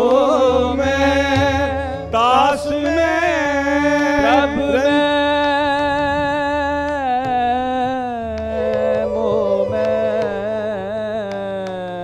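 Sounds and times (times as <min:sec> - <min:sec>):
bowed string instruments: 0:00.0 - 0:11.8
person singing: 0:00.0 - 0:12.0
tabla strokes: 0:00.0 - 0:12.0.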